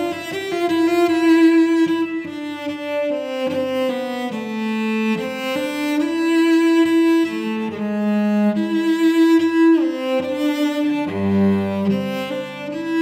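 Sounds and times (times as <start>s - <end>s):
bowed cello notes: 0.0s - 13.0s.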